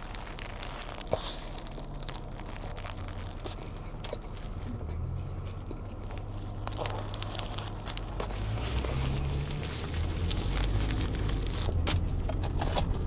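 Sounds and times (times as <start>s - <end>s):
paper wrapper crinkling and tearing: 0.0s - 13.0s.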